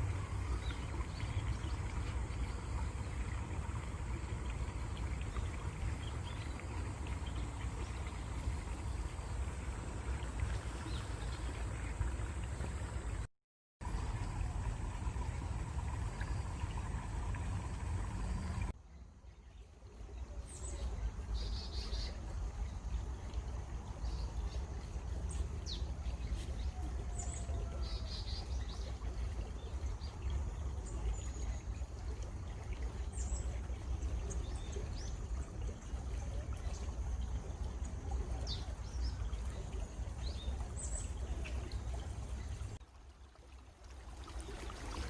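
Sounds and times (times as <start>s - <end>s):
running water rushing: 0.0s - 18.8s, 19.6s - 45.0s.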